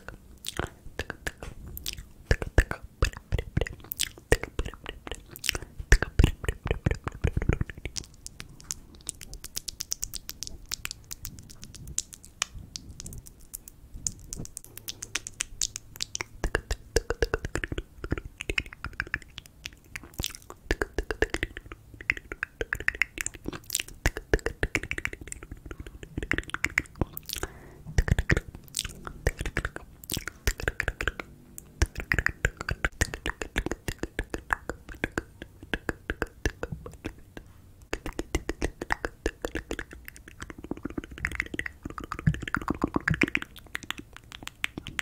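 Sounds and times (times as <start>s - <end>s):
breathy mouth noises: 0.0s - 45.0s
wet tongue and lip clicks: 0.0s - 45.0s.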